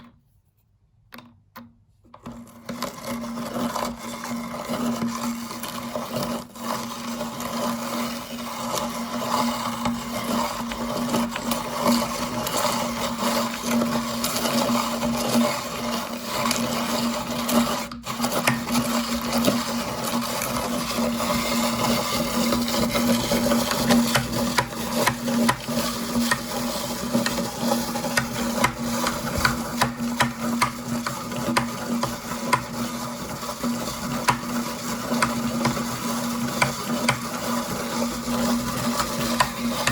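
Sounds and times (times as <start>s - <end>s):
meat grinder motor hum: 2.3s - 39.9s.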